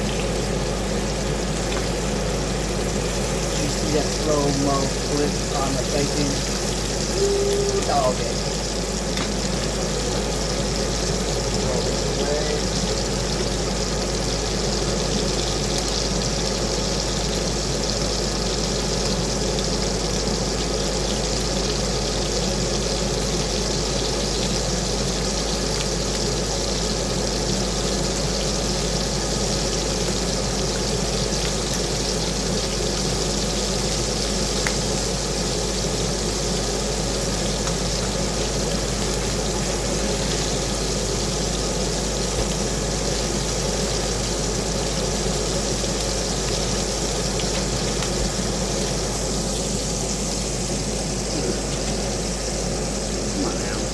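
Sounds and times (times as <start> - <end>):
bacon sizzling and popping: 0.0 - 53.9.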